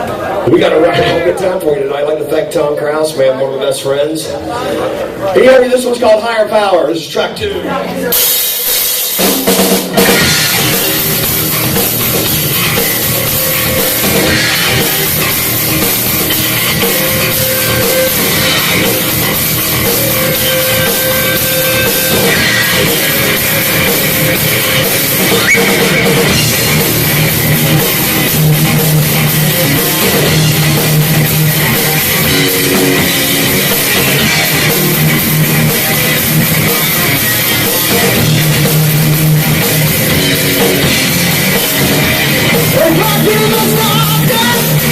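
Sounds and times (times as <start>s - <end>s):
distorted electric guitars: 0.0s - 3.2s, 7.4s - 44.9s
bass guitar: 7.7s - 44.9s
drum kit: 8.1s - 44.9s.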